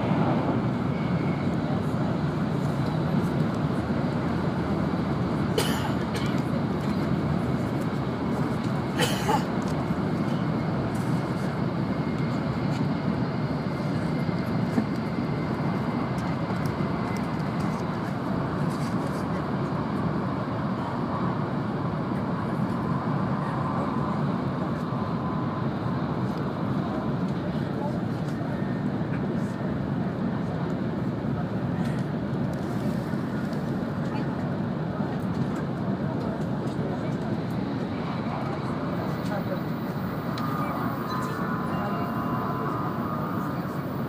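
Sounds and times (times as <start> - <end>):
train rumble inside cabin: 0.0 - 44.0.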